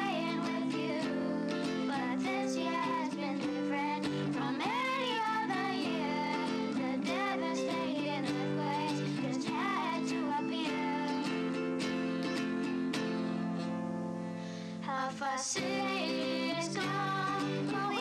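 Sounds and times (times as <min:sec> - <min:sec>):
children singing: 0:00.0 - 0:11.6, 0:14.8 - 0:18.0
acoustic guitar: 0:00.0 - 0:18.0.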